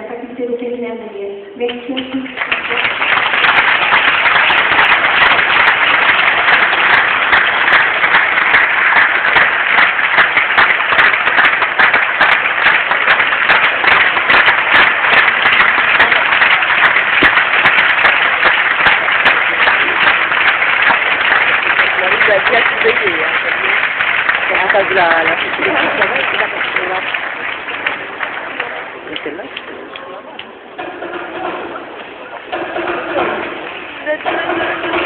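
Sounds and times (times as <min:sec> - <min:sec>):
large audience applauding: 0:01.7 - 0:35.0.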